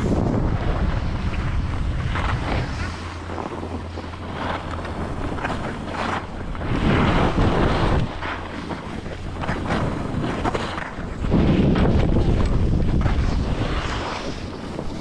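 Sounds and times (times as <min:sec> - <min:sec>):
skis scraping on packed snow: 0:00.0 - 0:15.0
wind buffeting microphone: 0:00.0 - 0:15.0.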